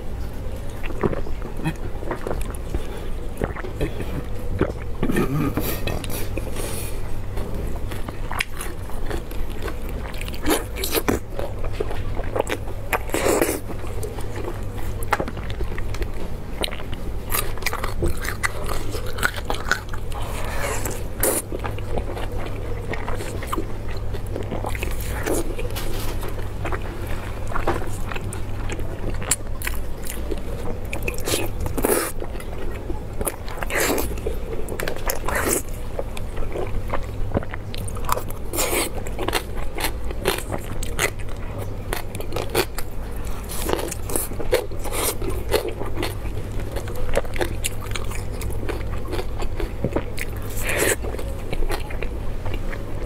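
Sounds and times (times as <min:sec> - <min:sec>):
steady low hum: 0:00.0 - 0:53.0
crunchy chewing: 0:00.5 - 0:53.0.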